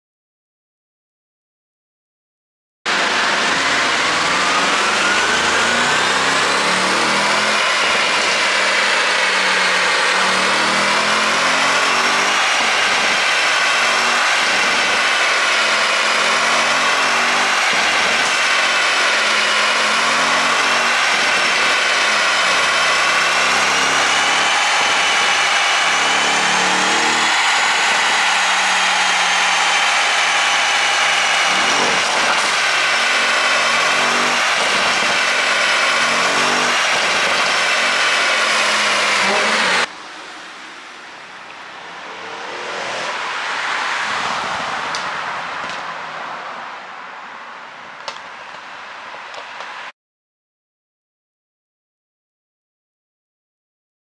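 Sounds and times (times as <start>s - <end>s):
car engine revving with crackles: 2.9s - 49.9s.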